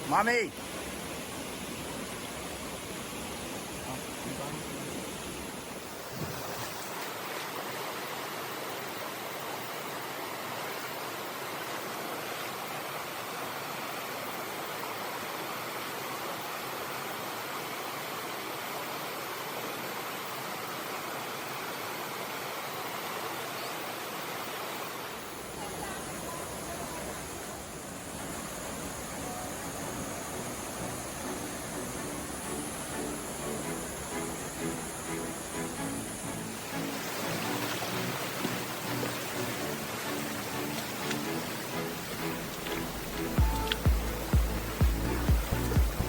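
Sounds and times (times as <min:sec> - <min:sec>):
stream water rushing: 0:00.0 - 0:46.0.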